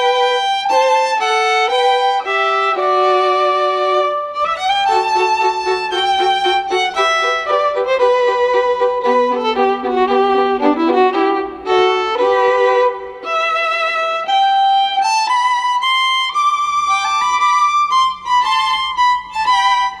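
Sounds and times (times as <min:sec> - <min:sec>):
violin playing quick melody: 0:00.0 - 0:20.0.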